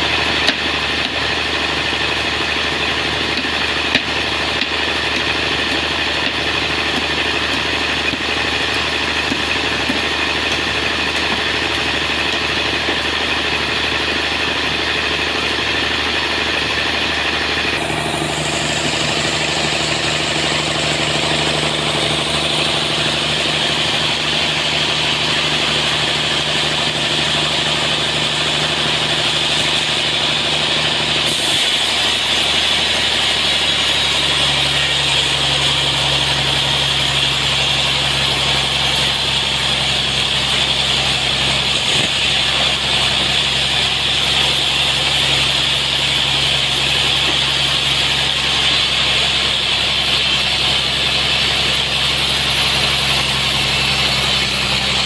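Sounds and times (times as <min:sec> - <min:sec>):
sawmill blade cutting log: 0:00.0 - 0:55.0.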